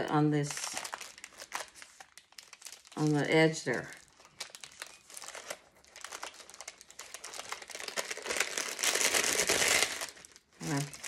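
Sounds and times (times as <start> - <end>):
paper crinkling and rustling: 0.0 - 11.0.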